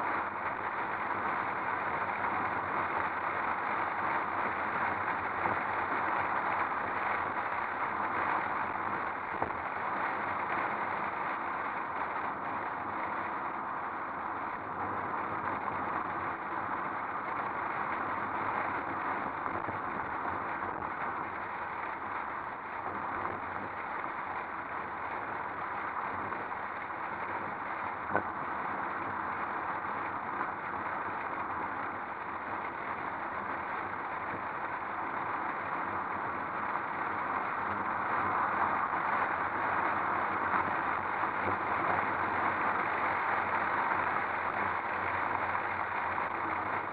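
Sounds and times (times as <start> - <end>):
wind and road noise: 0.0 - 46.9.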